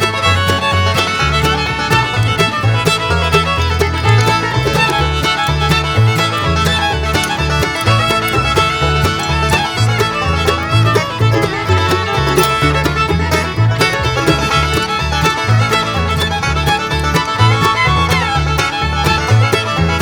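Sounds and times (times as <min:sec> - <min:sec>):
banjo: 0:00.0 - 0:20.0
fiddle: 0:00.0 - 0:20.0
walking bass: 0:00.0 - 0:20.0.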